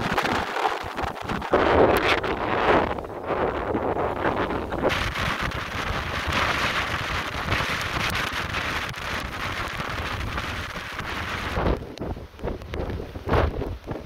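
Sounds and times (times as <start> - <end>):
wind driving rain: 0.0 - 14.0
wind gusts buffeting microphone: 0.0 - 14.0.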